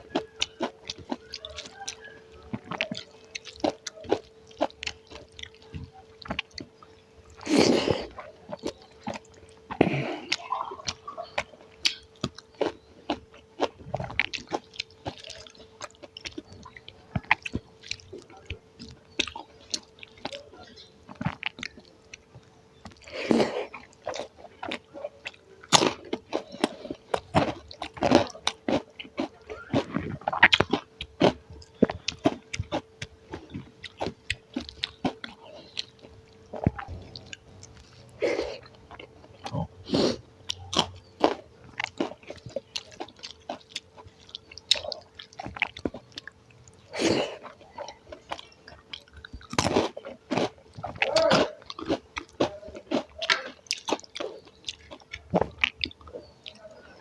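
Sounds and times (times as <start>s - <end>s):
faint steady hum: 0.0s - 57.0s
person chewing food: 0.0s - 57.0s.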